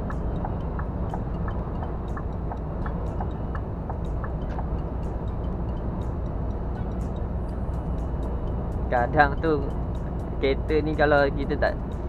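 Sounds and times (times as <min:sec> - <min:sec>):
light regular ticking: 0:00.0 - 0:12.0
truck engine and road rumble: 0:00.0 - 0:12.0.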